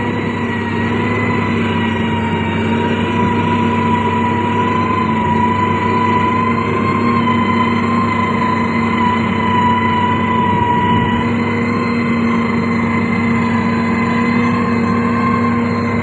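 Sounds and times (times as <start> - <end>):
constant machine whine: 0.0 - 16.0
diesel engine running: 0.0 - 16.0.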